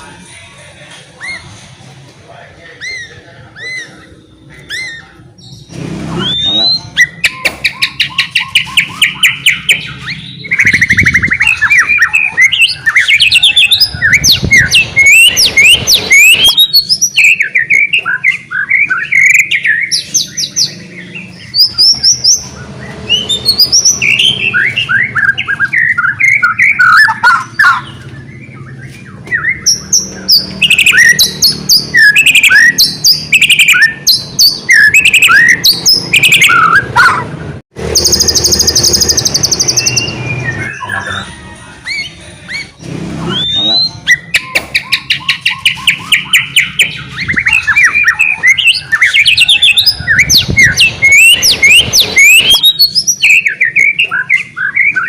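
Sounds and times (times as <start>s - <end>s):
songbird singing whistled phrases: 2.8s - 22.5s, 23.1s - 37.2s, 37.9s - 55.0s.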